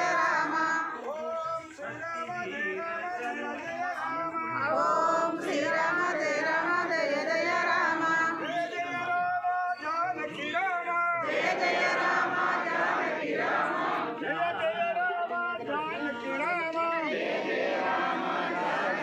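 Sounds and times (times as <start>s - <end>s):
group singing a devotional chant: 0.0s - 9.3s, 11.0s - 19.0s
crowd noise: 0.0s - 19.0s.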